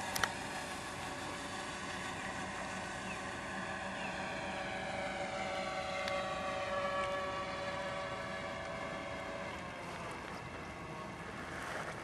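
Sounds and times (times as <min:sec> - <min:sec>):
model plane propellers droning: 0:00.0 - 0:12.0.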